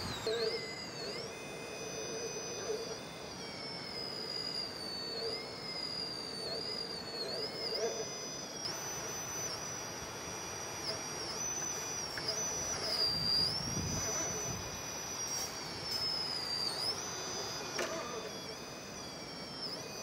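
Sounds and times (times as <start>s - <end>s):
electric motor whine: 0.0s - 20.0s.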